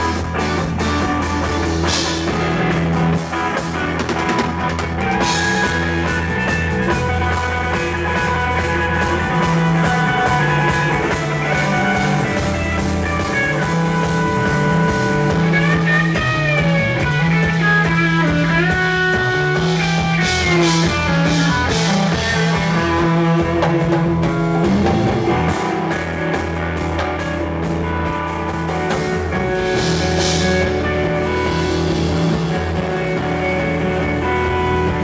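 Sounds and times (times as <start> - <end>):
bass guitar: 0.0 - 35.0
drum kit: 0.0 - 35.0
electric guitar bending notes: 0.0 - 35.0
rapid drum and cymbal hits: 0.0 - 35.0.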